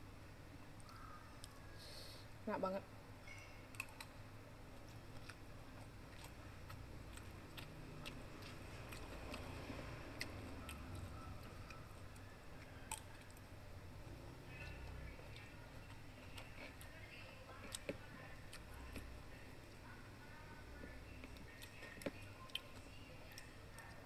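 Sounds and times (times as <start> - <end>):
chewing food: 3.7 - 24.0.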